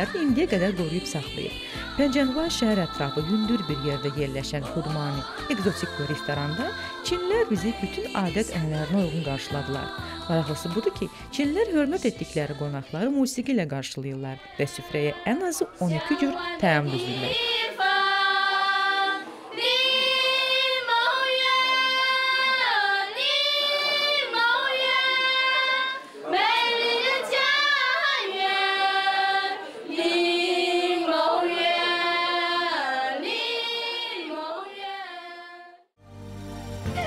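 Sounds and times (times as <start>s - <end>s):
women singing in unison: 0.0s - 13.3s, 14.1s - 35.9s.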